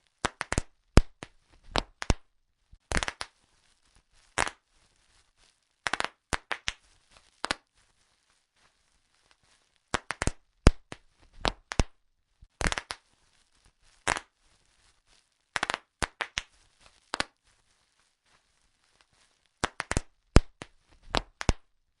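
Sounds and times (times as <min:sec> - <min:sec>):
bubble wrap popping: 0:00.0 - 0:21.8.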